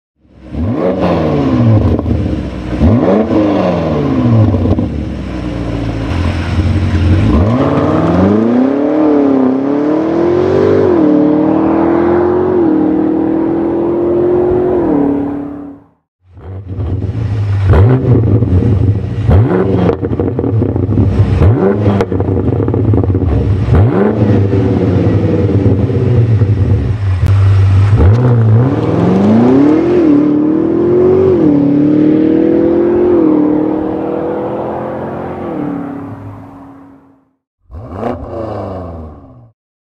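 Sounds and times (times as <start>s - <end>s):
car accelerating with upshifts: 0.4s - 39.5s
car engine revving: 0.4s - 39.5s.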